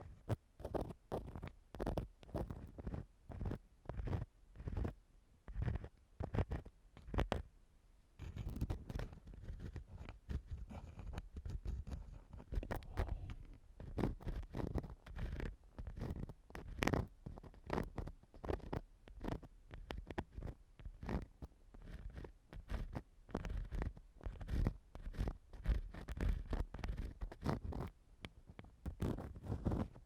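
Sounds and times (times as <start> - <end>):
tool scraping a microphone: 0.0 - 7.4, 8.2 - 27.9, 28.6 - 30.0.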